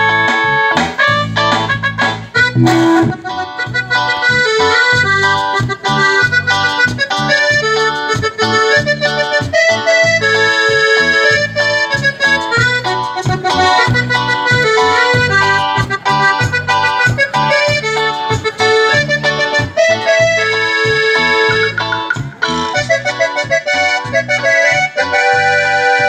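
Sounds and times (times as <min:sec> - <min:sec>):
cumbia on electronic keyboard: 0:00.0 - 0:26.0.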